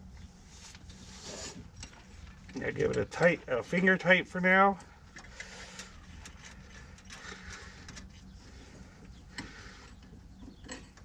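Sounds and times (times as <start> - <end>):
faint steady hum: 0.0 - 11.0
light metal scraping and clicks: 0.6 - 11.0.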